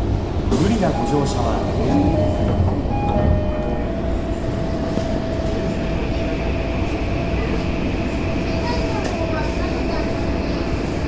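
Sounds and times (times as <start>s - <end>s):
train whine: 0.0s - 11.0s
wheels rumbling on rail: 0.0s - 11.0s.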